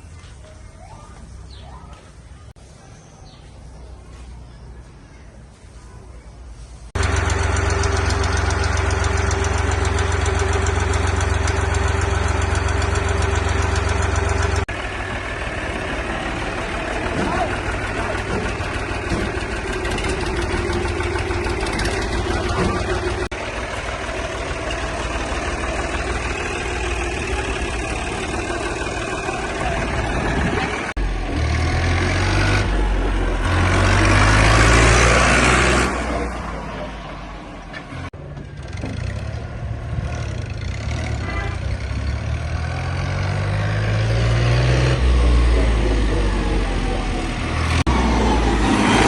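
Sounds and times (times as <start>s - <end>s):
tractor engine revving: 7.0s - 49.0s.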